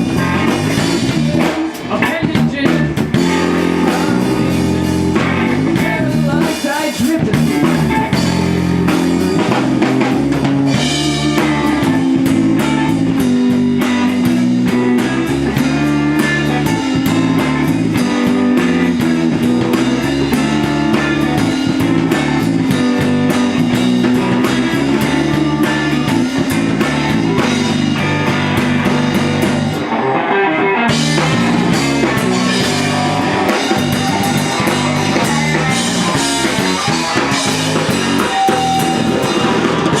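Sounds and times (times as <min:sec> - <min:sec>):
drum kit: 0:00.0 - 0:40.0
electric guitar: 0:00.0 - 0:40.0.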